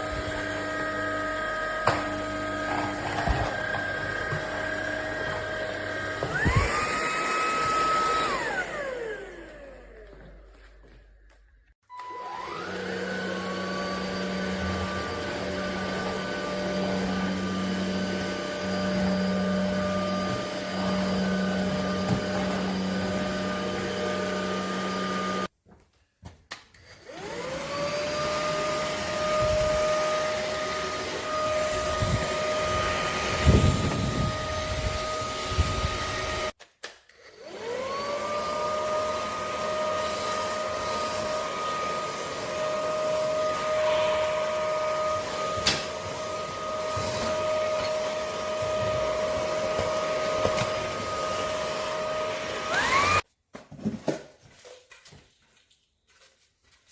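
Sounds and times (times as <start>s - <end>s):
vacuum cleaner motor whining: 0.0s - 10.5s, 11.8s - 25.5s, 26.8s - 36.6s, 37.2s - 53.3s.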